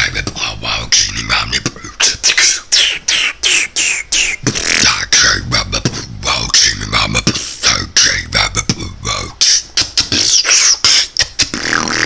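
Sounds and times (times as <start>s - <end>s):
vocal beatboxing: 0.0s - 12.0s.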